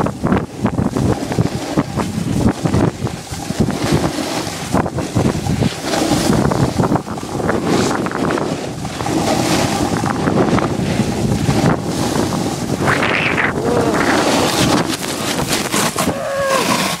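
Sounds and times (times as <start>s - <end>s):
wind buffeting microphone: 0.0s - 17.0s
snowboard scraping on snow: 0.2s - 17.0s.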